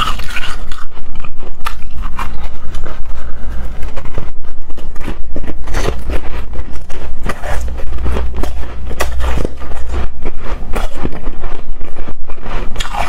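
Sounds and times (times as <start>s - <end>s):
chewing crunchy ice: 0.0s - 4.0s, 4.7s - 13.0s.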